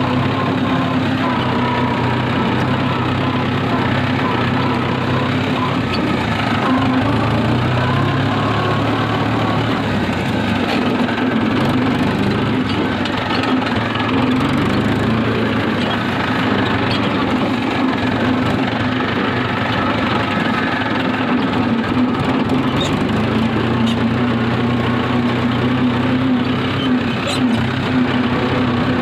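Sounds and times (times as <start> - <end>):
tractor diesel engine knocking: 0.0 - 29.0.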